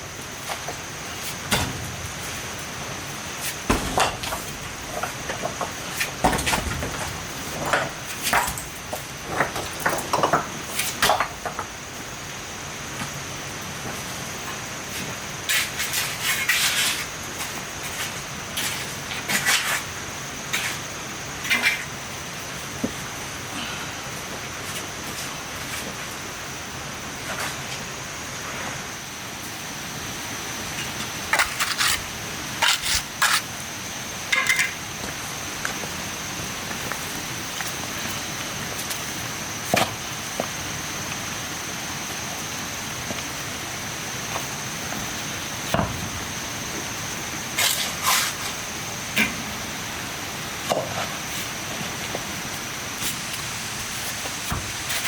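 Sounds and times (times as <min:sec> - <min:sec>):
constant high-pitched tone: 0:00.0 - 0:55.0
steady background hiss: 0:00.0 - 0:55.0.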